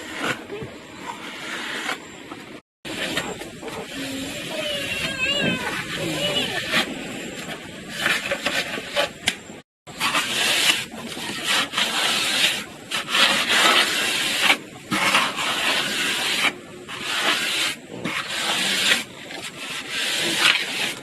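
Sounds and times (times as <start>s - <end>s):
scraping strokes: 0.0s - 21.0s.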